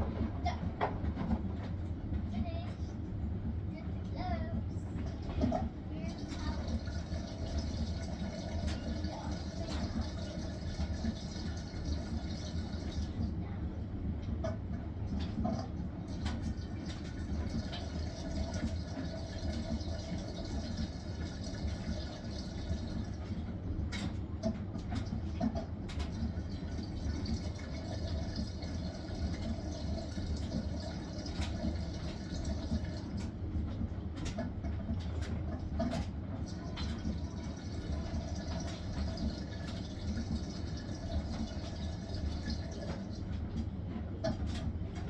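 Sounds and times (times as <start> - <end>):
washing machine humming: 0.0 - 45.0
water swishing inside machine: 0.0 - 45.0.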